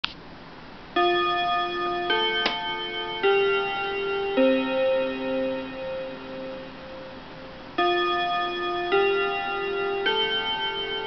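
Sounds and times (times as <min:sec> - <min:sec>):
electronic bell-like chime: 0:01.0 - 0:11.0.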